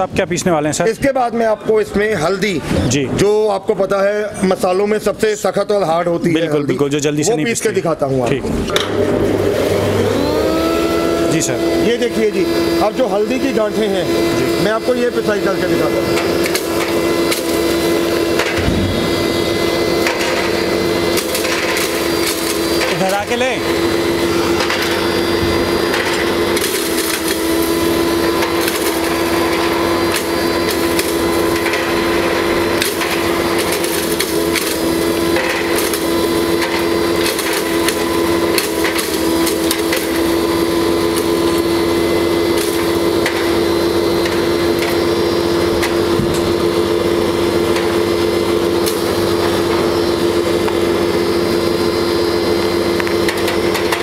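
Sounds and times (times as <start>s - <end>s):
spice mill humming: 8.8s - 54.0s.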